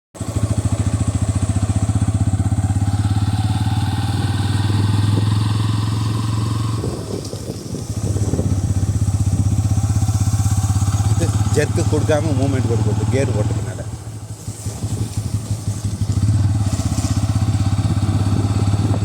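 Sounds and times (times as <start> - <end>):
motorcycle engine running: 0.2 - 19.0.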